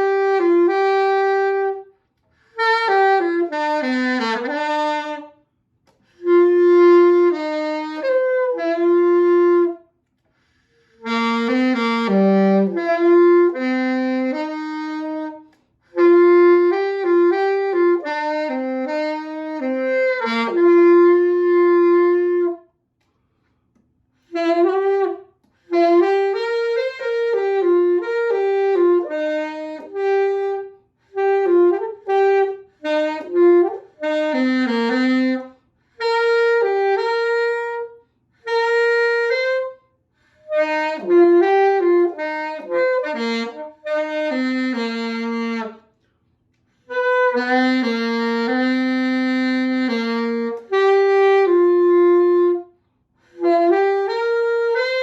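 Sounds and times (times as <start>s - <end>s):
saxophone playing slow melody: 0.0s - 22.8s, 24.2s - 46.0s, 46.6s - 55.0s.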